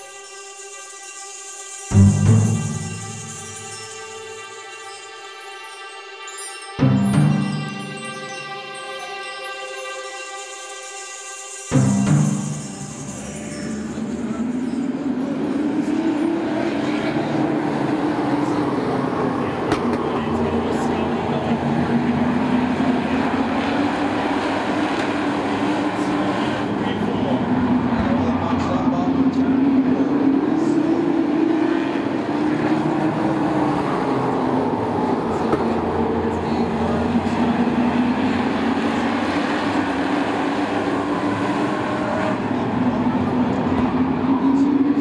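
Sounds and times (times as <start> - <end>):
race truck engines droning: 0.0 - 45.0.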